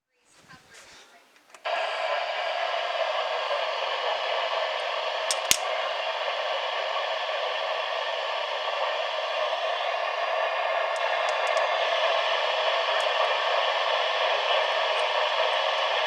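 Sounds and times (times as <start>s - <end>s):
radio static hiss: 0.0s - 16.0s
sharp clicks: 1.4s - 16.0s.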